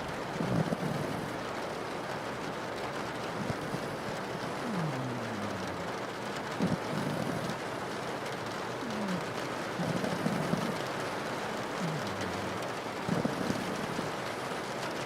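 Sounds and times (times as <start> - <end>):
rain on a window: 0.0 - 15.0
dog snoring: 0.4 - 1.4, 3.2 - 15.0.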